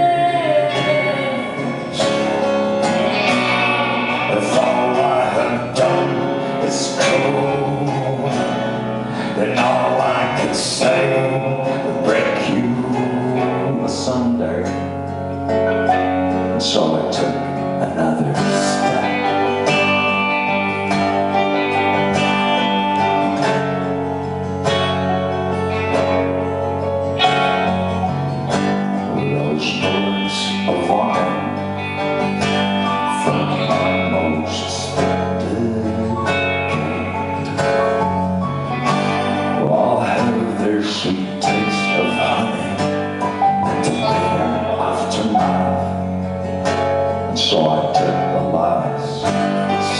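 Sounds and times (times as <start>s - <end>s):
person singing: 0.0s - 49.9s
strummed acoustic guitar: 0.0s - 49.9s.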